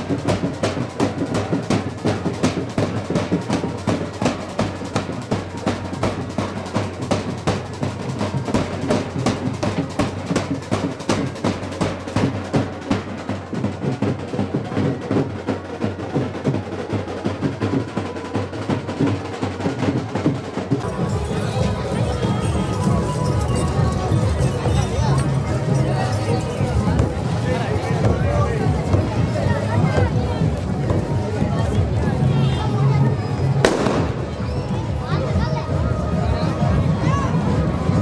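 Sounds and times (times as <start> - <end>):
bass drum and snare drums: 0.0 - 38.0.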